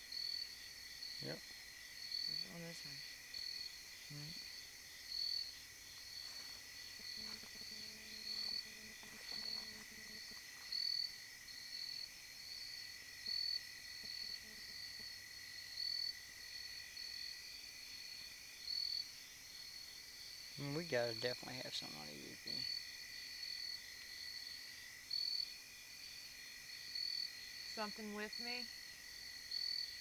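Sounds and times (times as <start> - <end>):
insect chirps: 0.0 - 30.0
insects trilling: 0.0 - 30.0.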